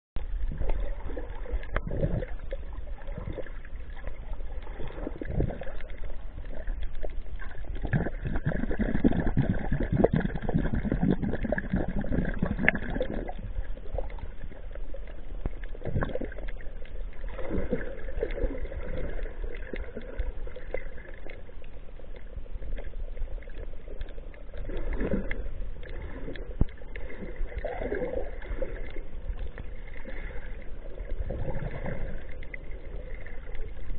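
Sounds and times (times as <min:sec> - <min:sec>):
muffled underwater rumble: 0:00.2 - 0:33.9.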